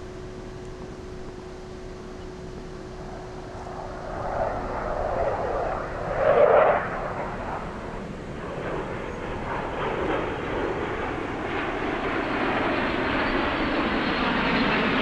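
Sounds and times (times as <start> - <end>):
distant jet rumble: 1.0 - 15.0.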